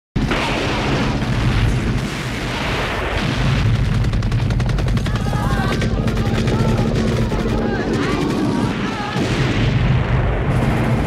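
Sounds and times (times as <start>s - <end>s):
explosions and gunfire: 0.2s - 11.0s.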